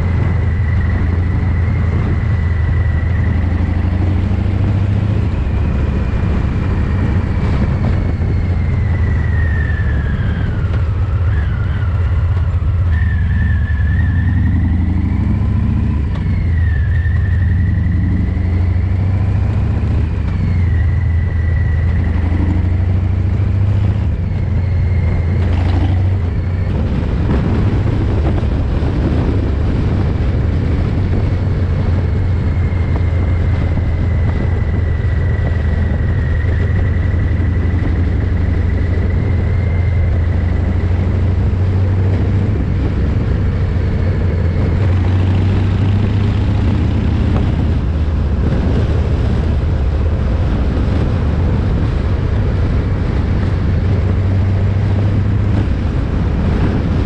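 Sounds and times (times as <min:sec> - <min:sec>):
distorted motorcycle engine running: 0:00.0 - 0:57.0.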